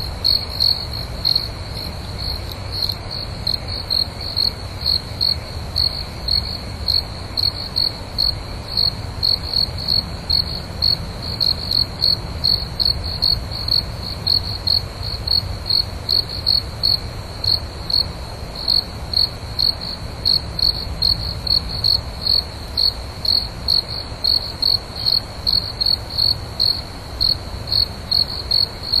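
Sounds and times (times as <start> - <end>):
cricket chirping: 0.0 - 29.0.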